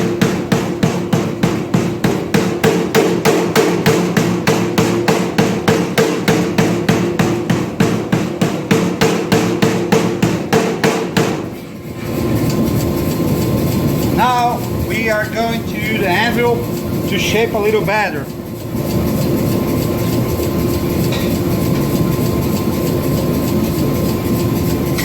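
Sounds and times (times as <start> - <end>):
power hammer striking hot steel: 0.0 - 25.0.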